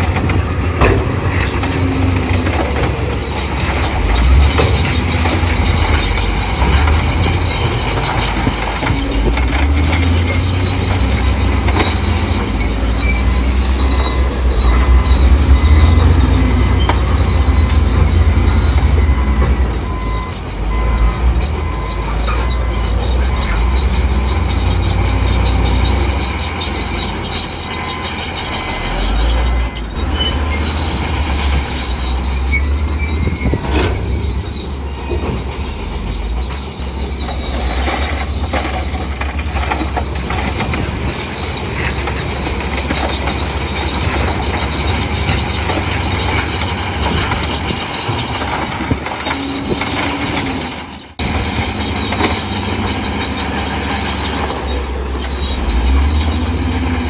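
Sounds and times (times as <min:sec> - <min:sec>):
diesel engine droning: 0:00.0 - 0:57.0
steel tracks squealing and clanking: 0:00.0 - 0:57.0.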